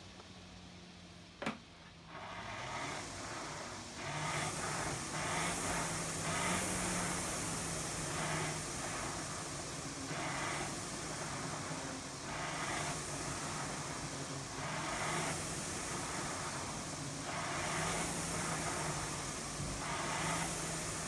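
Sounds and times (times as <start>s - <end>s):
rowing machine flywheel whooshing: 2.0s - 21.0s.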